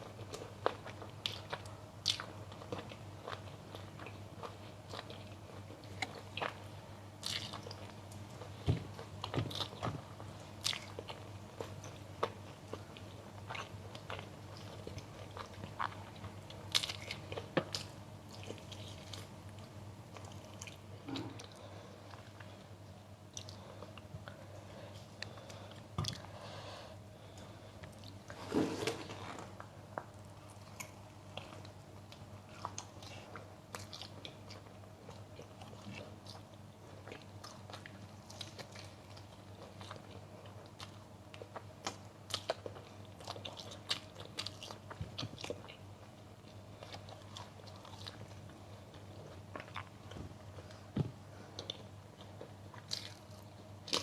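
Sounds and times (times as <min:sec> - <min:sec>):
crunchy food chewing: 0:00.0 - 0:22.7, 0:27.2 - 0:54.0.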